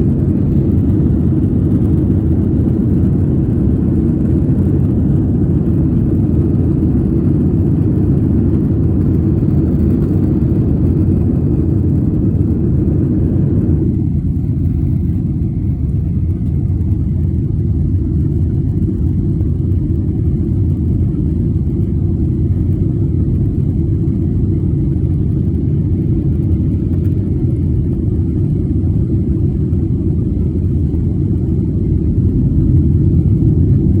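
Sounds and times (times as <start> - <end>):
jet airliner low rumble: 0.0 - 34.0.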